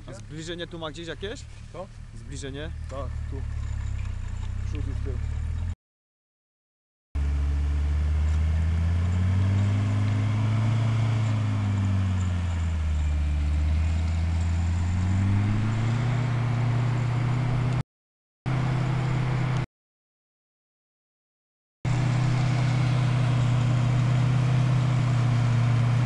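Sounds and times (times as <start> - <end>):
off-road vehicle engine revving: 0.0 - 5.8, 7.2 - 17.8, 18.5 - 19.7, 21.9 - 26.0.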